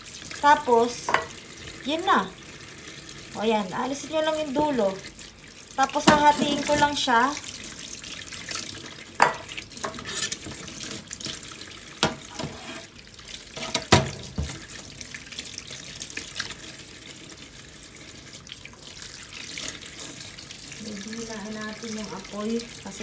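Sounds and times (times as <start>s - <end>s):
faucet running into sink: 0.0s - 23.0s
vegetables washed by hand: 0.0s - 23.0s.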